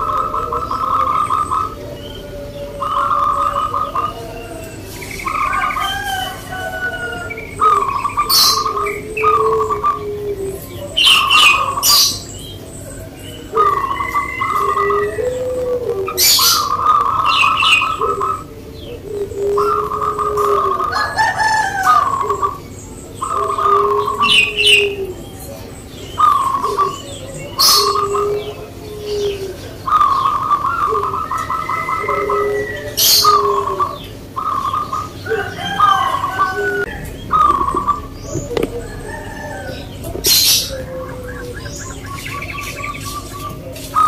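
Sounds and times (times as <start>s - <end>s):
doves cooing: 0.0s - 44.0s.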